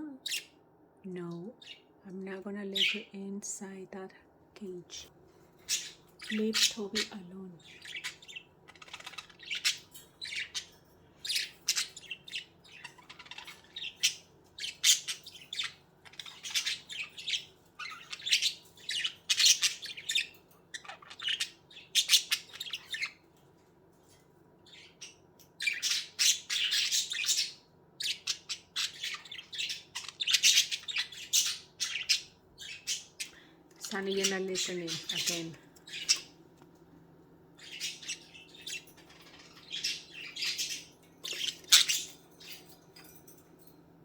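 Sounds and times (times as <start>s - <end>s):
budgerigars chirping and squawking: 0.2s - 0.6s, 2.7s - 3.1s, 4.9s - 43.4s.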